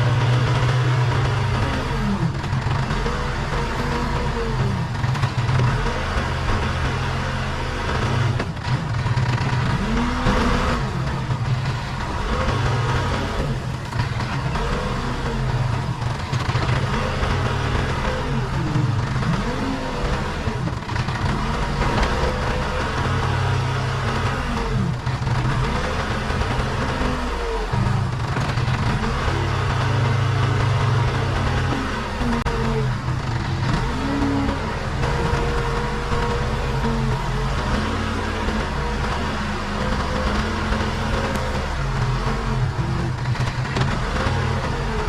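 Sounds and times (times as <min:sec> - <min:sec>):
diesel engine running: 0:00.0 - 0:45.0
machine whine: 0:00.0 - 0:45.0.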